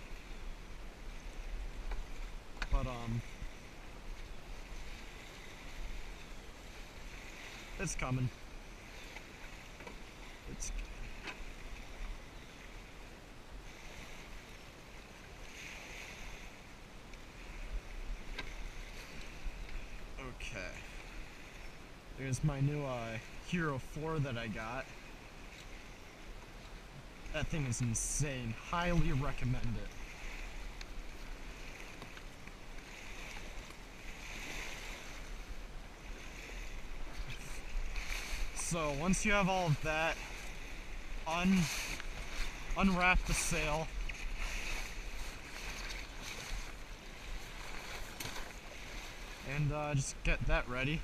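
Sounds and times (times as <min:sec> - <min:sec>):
small waves lapping at shore: 0:00.0 - 0:51.0.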